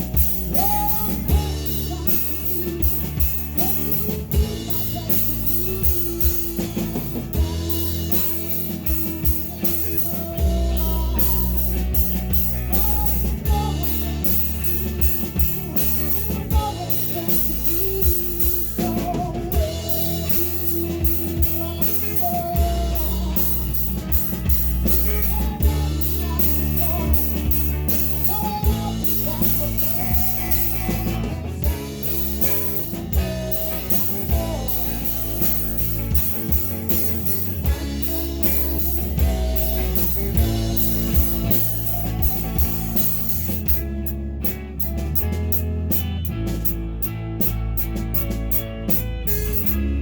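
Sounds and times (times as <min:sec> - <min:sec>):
bass guitar: 0:00.0 - 0:50.0
drum kit: 0:00.0 - 0:50.0
electric guitar: 0:00.0 - 0:50.0.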